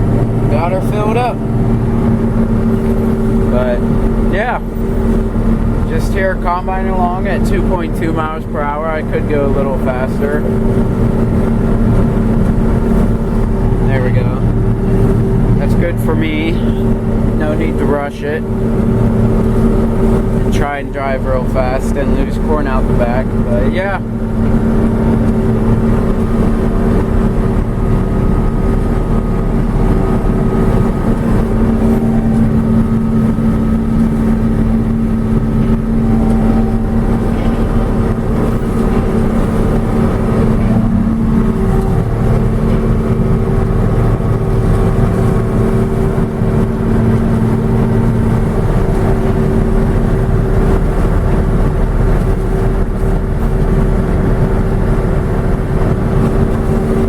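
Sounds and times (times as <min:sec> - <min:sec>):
combine harvester droning: 0:00.0 - 0:57.0.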